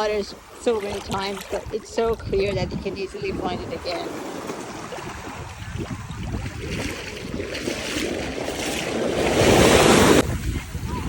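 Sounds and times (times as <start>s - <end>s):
ocean surf washing: 0.0s - 11.0s
wind rumbling on microphone: 0.0s - 11.0s.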